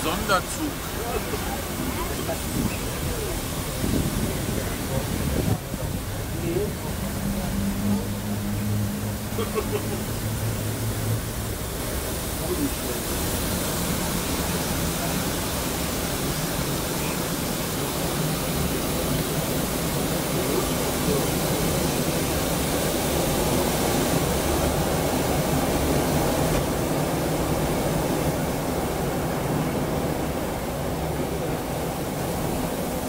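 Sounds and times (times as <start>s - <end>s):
moving train rumbling: 0.0s - 33.0s.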